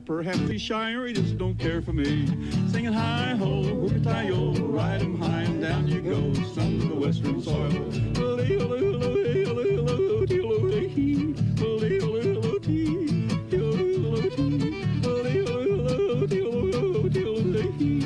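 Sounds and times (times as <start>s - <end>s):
strummed acoustic guitar: 0.0s - 18.0s
fiddle: 1.2s - 18.0s
person yodeling: 2.6s - 18.0s.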